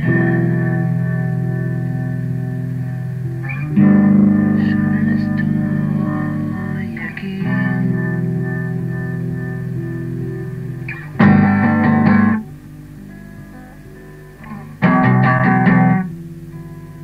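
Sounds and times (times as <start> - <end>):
guitar notes ringing: 0.0 - 17.0
strummed guitar chords: 0.0 - 17.0.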